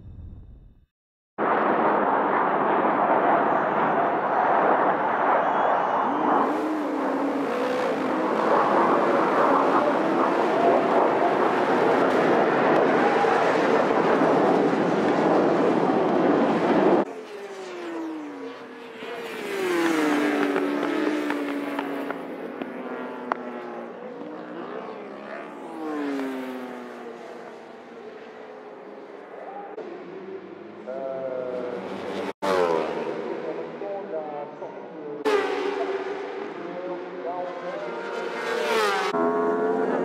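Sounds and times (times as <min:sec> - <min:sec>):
racing motorcycle engines: 0:03.5 - 0:40.0
motorcycles passing by: 0:06.4 - 0:40.0.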